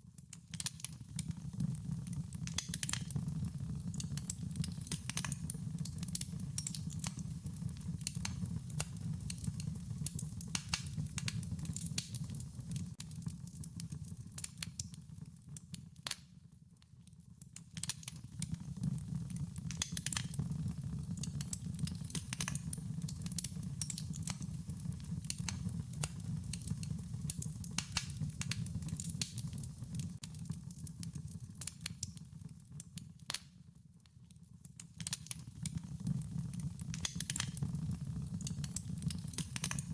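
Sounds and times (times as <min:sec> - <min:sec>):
wood fire crackling: 0:00.1 - 0:16.6, 0:17.2 - 0:33.8, 0:34.4 - 0:39.9
low rumble of burning: 0:00.2 - 0:15.8, 0:17.4 - 0:33.4, 0:34.6 - 0:39.9.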